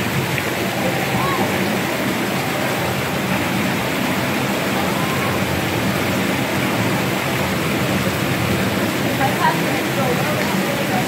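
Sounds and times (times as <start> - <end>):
roar of rushing water: 0.0 - 11.0.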